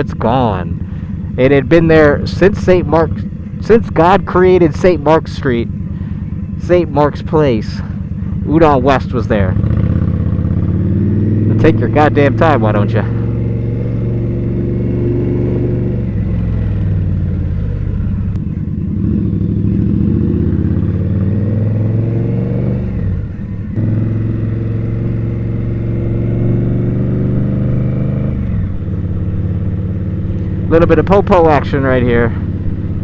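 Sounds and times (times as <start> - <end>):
motorcycle engine: 0.0 - 33.0.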